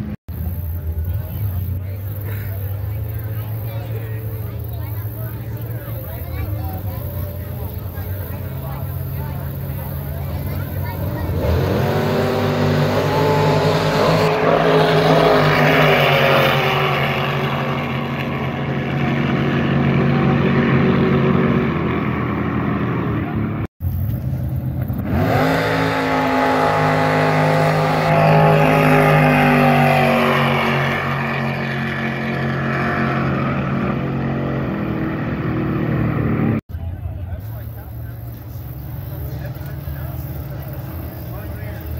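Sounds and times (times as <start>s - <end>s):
jet boat engines at full throttle: 0.0s - 41.9s.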